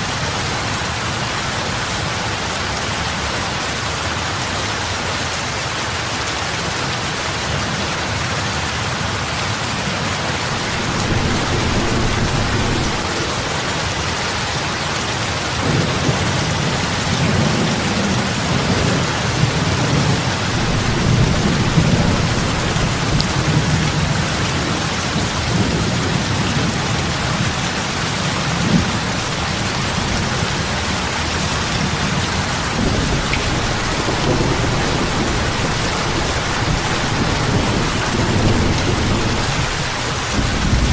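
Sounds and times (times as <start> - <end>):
heavy rain on water: 0.0 - 40.9.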